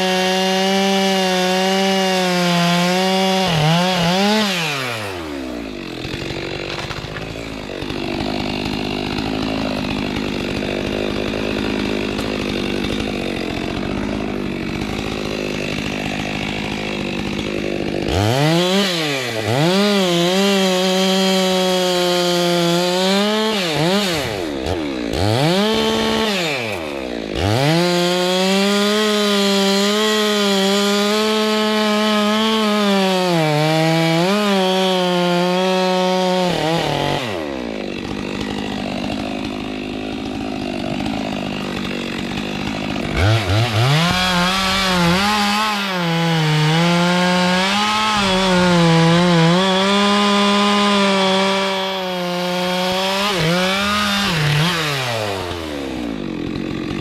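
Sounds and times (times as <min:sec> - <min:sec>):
chainsaw revving and idling: 0:00.0 - 0:57.0.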